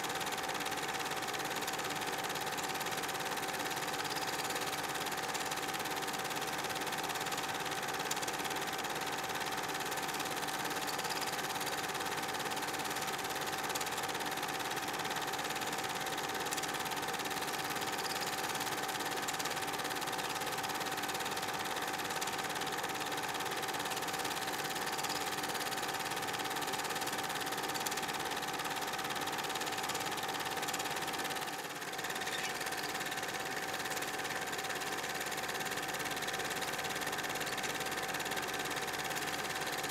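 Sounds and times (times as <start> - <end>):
film projector running with whine: 0.0 - 39.9.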